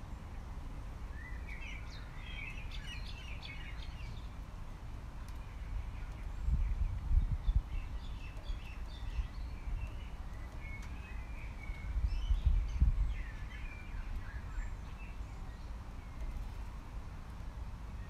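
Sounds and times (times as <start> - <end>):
low rumbling noise in gusts: 0.0 - 18.0
small birds chirping: 0.0 - 18.0.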